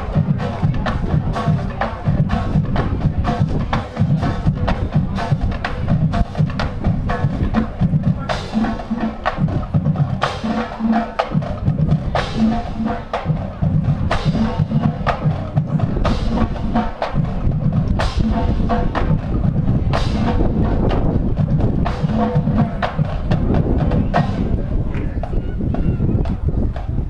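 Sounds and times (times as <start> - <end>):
drumline playing: 0.0 - 27.0.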